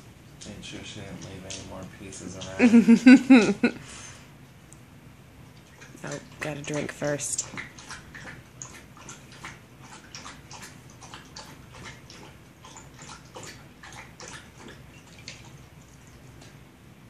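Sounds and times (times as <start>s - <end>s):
dog lapping water: 0.3s - 3.4s, 5.5s - 16.8s.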